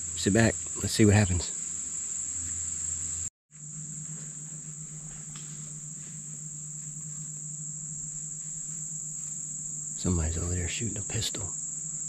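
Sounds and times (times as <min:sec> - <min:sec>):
insects trilling: 0:00.0 - 0:12.0
low steady hum: 0:00.0 - 0:12.0.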